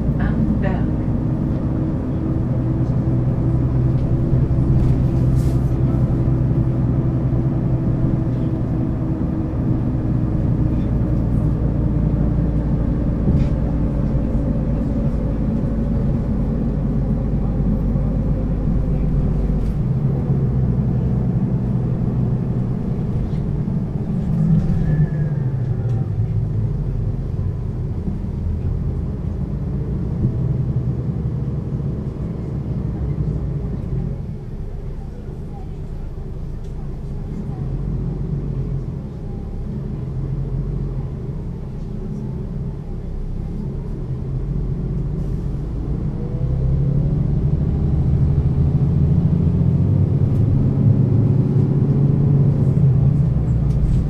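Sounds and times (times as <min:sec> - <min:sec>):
bus engine hum from on board: 0:00.0 - 0:54.0.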